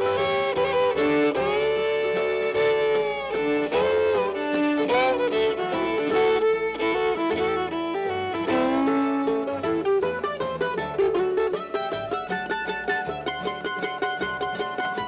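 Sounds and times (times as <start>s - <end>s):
fiddle playing melody: 0.0s - 15.0s
plucked-string accompaniment: 0.0s - 15.0s.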